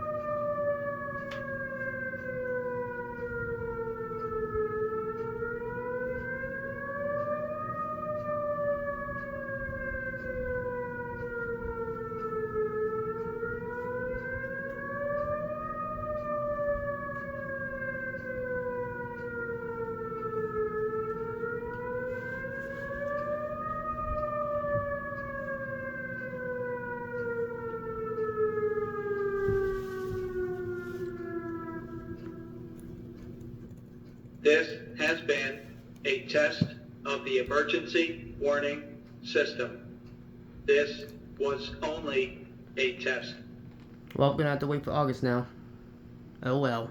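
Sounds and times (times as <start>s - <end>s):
warning siren wailing: 0.0s - 46.9s.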